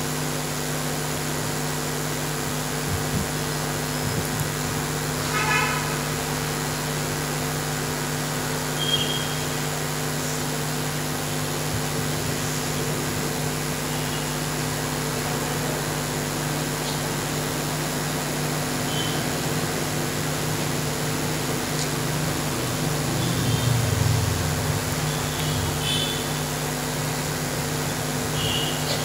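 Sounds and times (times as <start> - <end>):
sound system electrical hum: 0.0 - 29.0.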